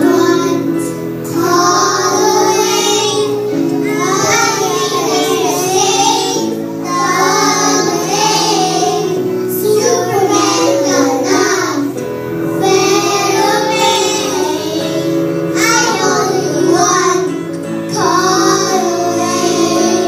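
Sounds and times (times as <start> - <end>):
children singing: 0.0 - 20.0
musical accompaniment: 0.0 - 20.0.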